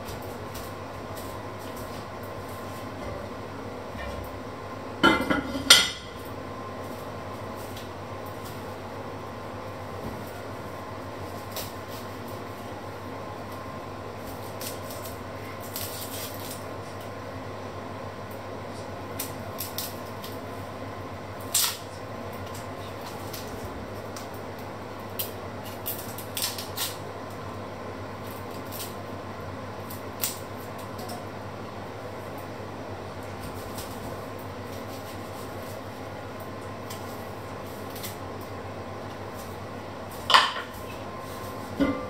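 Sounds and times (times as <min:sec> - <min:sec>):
steady low hum: 0:00.0 - 0:26.0, 0:27.0 - 0:42.0.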